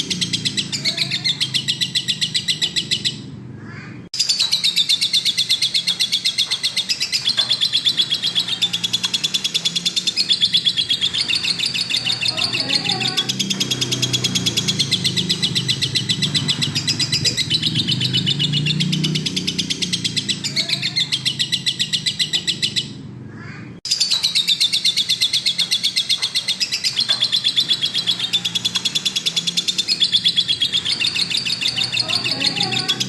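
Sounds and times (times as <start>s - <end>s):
lovebird chattering: 0.0s - 3.2s, 4.2s - 23.0s, 23.9s - 33.0s.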